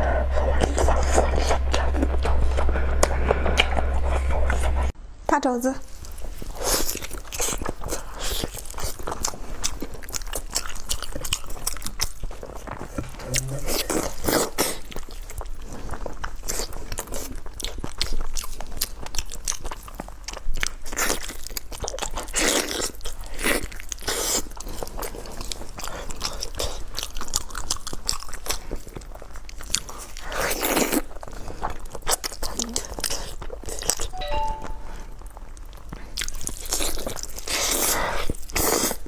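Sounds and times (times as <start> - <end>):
person chewing food: 5.9 - 34.8, 35.8 - 39.0.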